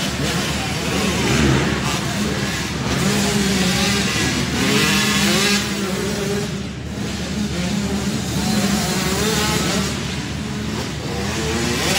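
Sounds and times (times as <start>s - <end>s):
dirt bikes revving past: 0.0s - 11.9s.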